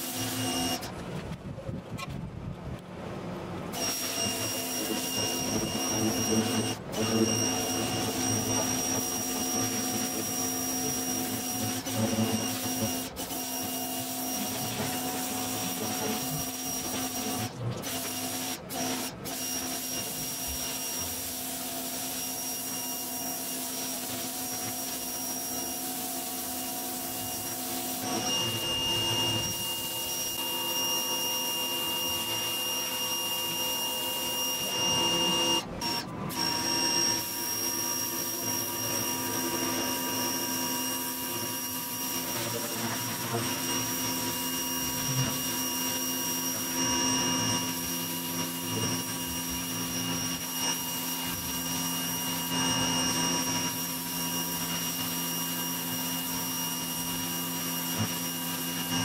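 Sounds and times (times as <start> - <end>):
pressure washer motor whine: 0.0 - 1.2, 3.0 - 59.0
water jet hissing on concrete: 3.7 - 59.0.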